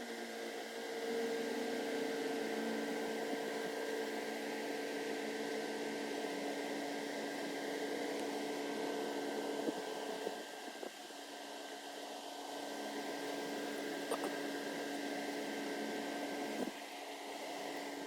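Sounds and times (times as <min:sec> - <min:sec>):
cooler fan humming and whining: 0:00.0 - 0:18.0.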